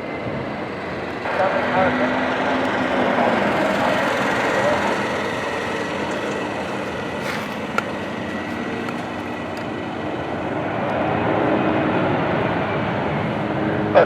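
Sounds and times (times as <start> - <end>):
faint high whine: 0.0 - 14.0
jet engines running: 0.0 - 14.0.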